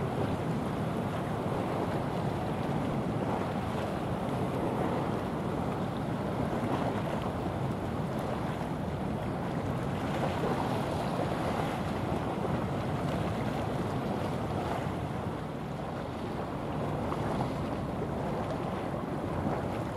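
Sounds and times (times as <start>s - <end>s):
sea water: 0.0s - 19.9s
wind on the microphone: 0.0s - 19.9s.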